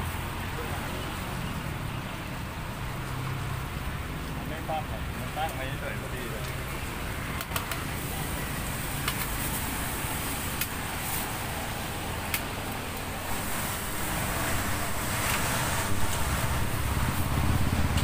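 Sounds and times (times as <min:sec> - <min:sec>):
roadside traffic rumble: 0:00.0 - 0:18.0.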